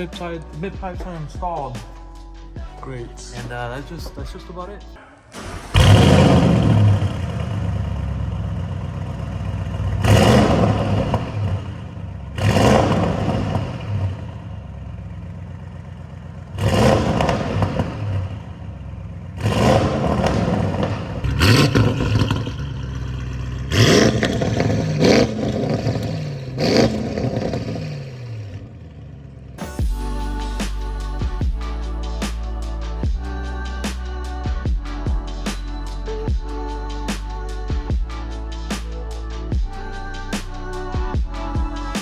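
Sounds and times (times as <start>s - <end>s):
car engine revving: 5.0s - 42.0s.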